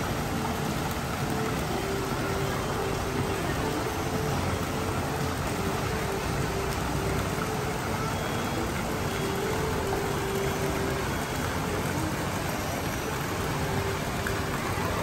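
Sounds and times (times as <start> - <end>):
distant crowd chatter: 0.0 - 15.0.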